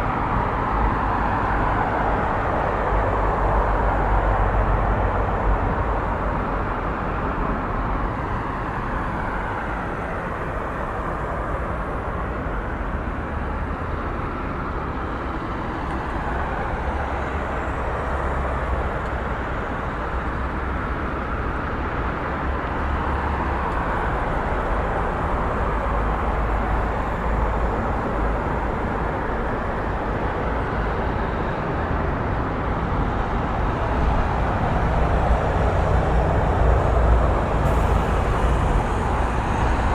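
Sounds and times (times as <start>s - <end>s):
traffic noise with low rumble: 0.0s - 39.9s.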